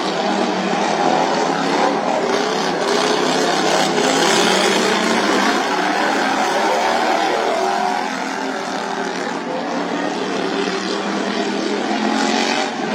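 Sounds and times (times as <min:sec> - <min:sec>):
lawnmower engines running: 0:01.0 - 0:12.0.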